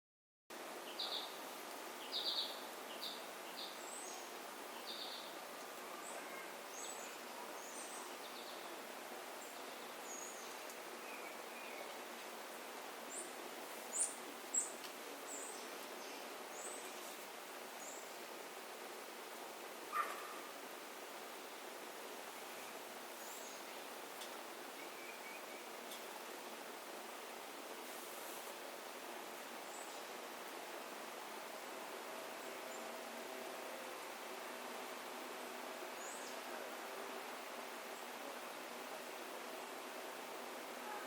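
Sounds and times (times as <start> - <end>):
steady background hiss: 0.5 - 41.0.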